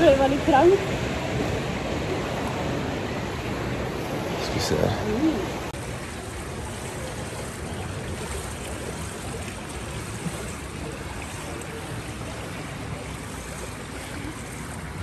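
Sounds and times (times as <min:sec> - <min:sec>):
pool water sloshing: 0:00.0 - 0:15.0.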